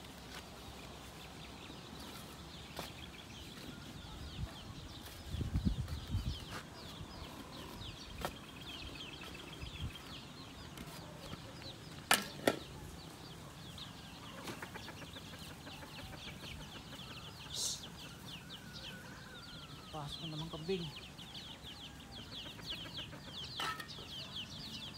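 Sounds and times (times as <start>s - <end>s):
chickens peeping and clucking: 0.0s - 24.9s.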